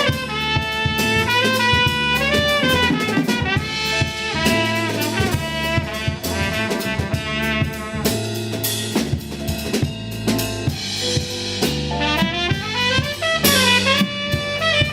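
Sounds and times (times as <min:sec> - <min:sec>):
instrumental jazz music: 0:00.0 - 0:14.9.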